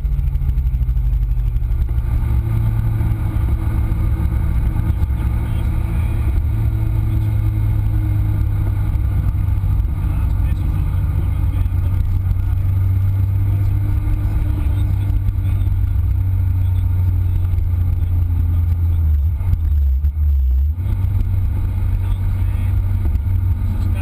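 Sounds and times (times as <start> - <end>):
car engine and road noise rumbling: 0.0 - 24.0.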